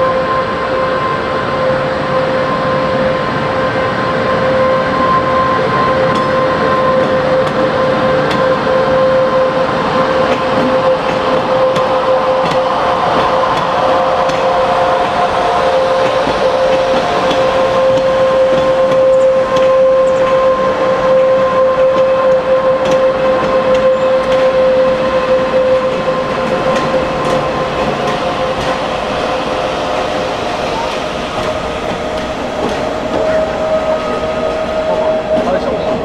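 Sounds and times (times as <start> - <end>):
high whine: 0.0 - 36.0
train rumbling on rails: 0.0 - 36.0.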